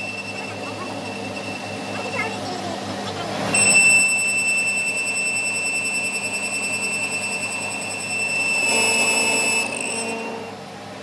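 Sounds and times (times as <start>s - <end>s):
high-pitched machine whine: 0.0s - 11.0s.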